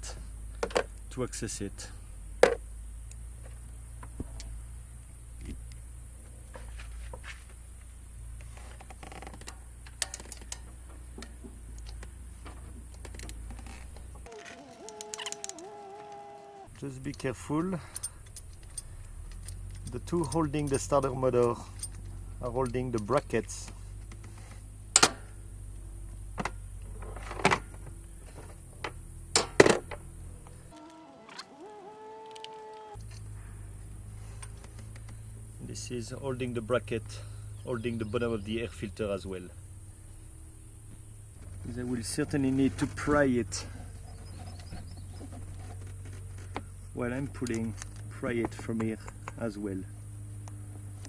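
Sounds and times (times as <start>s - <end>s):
background hum: 0.0s - 51.0s.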